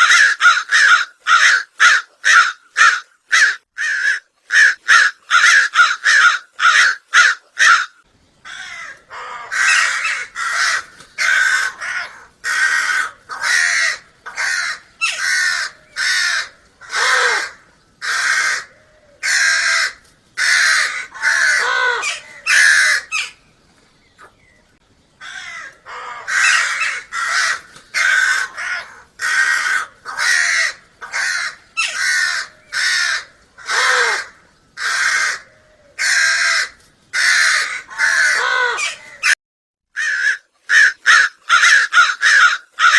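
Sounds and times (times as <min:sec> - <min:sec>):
crows cawing: 0:00.0 - 0:23.4, 0:25.2 - 0:39.4, 0:40.0 - 0:42.9.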